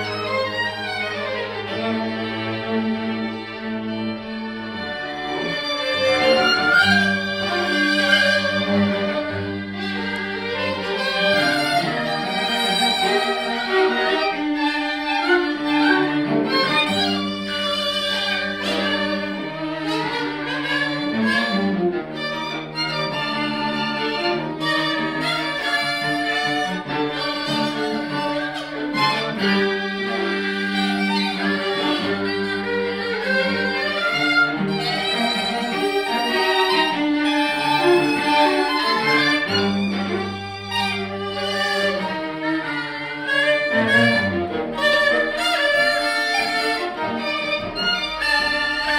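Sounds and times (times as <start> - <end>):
low cello line: 0.0 - 48.9
string ensemble playing: 0.0 - 48.9.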